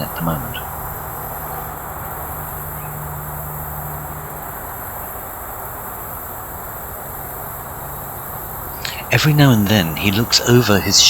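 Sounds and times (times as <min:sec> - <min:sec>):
distant highway traffic rumble: 0:00.0 - 0:11.0
high insect drone: 0:00.0 - 0:11.0.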